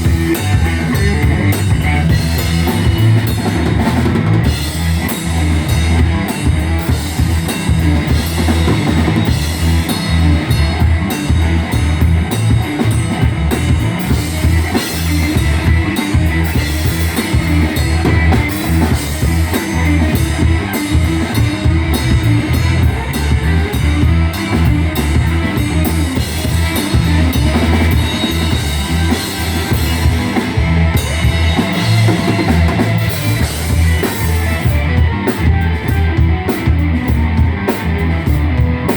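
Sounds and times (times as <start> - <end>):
drum kit: 0.0 - 38.9
electric guitar: 0.0 - 38.9
live rock band playing: 0.0 - 38.9.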